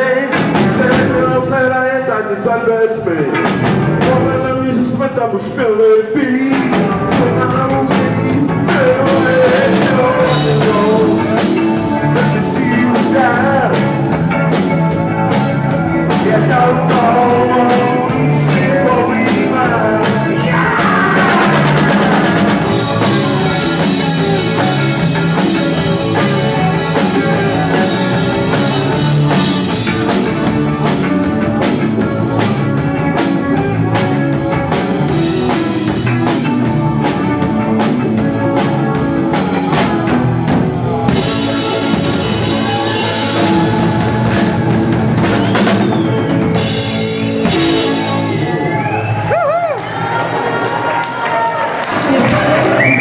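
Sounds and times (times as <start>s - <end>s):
live rock band playing: 0.0s - 53.0s
drum kit steady beat: 6.0s - 49.8s.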